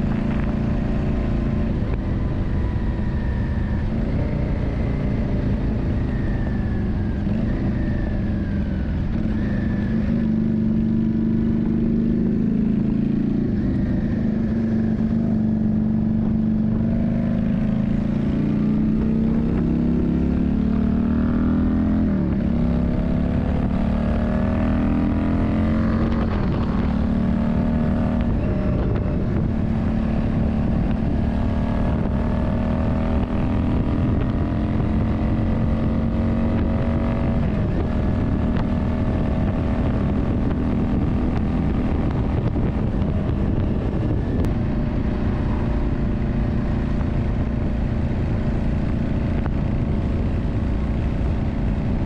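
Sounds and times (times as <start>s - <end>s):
motorcycle engine shifting gears: 0.0s - 52.0s.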